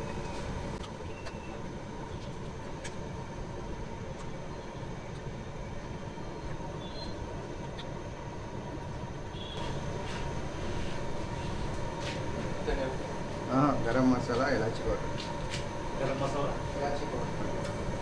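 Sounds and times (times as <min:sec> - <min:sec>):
faint hum: 0:00.0 - 0:18.0
low rumbling background noise: 0:00.0 - 0:18.0.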